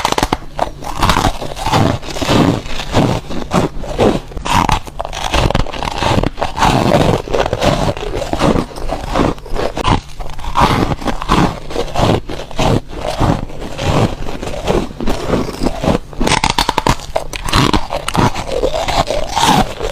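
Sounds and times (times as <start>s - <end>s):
foam ice crunched between teeth: 0.0s - 19.9s.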